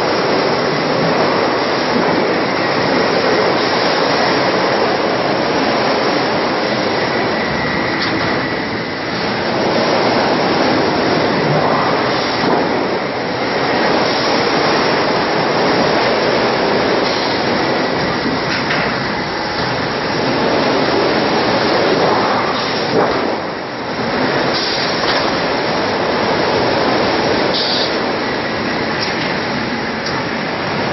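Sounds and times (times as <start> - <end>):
steady machinery noise: 0.0 - 30.9.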